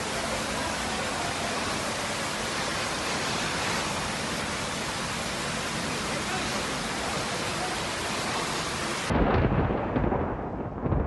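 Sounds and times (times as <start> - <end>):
rushing water: 0.0 - 9.2.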